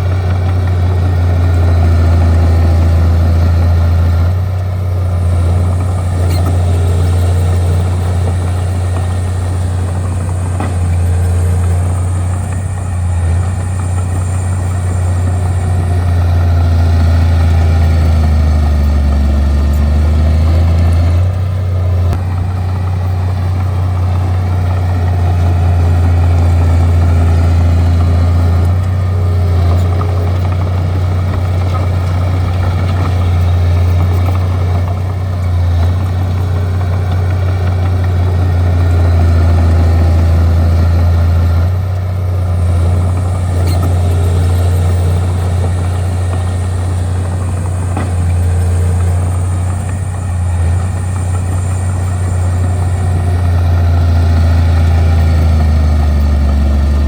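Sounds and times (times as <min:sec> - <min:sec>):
bulldozer diesel engine drone: 0:00.0 - 0:57.0.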